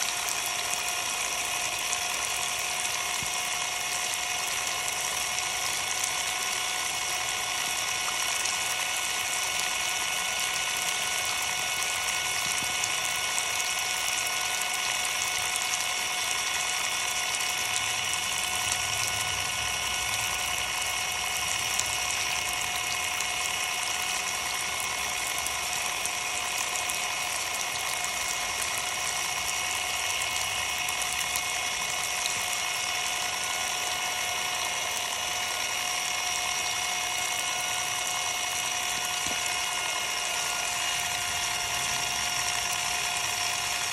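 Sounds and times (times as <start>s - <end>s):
impact driver motor whining: 0.0s - 43.9s.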